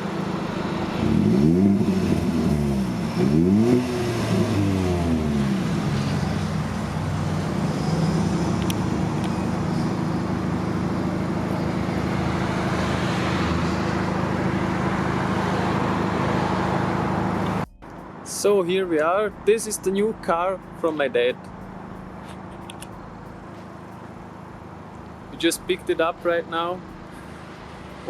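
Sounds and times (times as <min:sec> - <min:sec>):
car engine revving: 0:00.0 - 0:18.2, 0:18.9 - 0:28.0.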